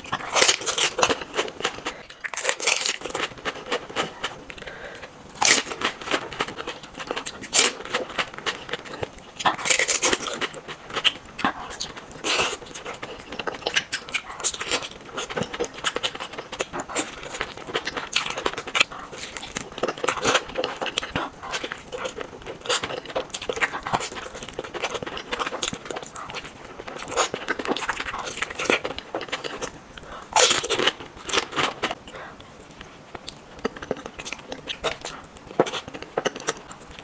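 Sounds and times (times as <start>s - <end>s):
person chewing crunchy food: 0.0s - 37.0s.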